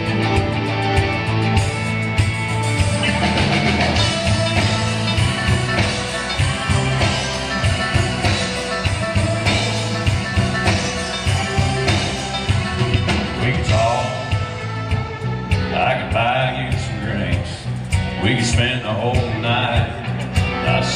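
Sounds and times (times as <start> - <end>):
bass guitar: 0.0 - 20.9
drum kit beat: 0.0 - 20.9
electric guitar: 0.0 - 20.9.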